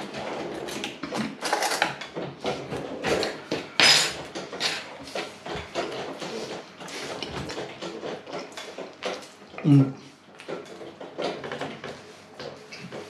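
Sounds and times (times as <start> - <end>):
food rustling and clicking: 0.0 - 13.0.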